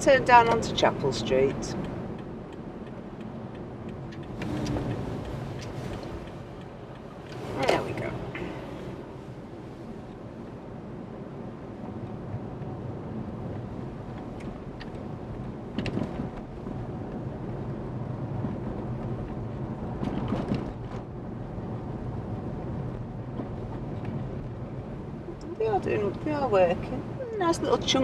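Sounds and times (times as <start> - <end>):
car engine and road hum: 0.0 - 28.0.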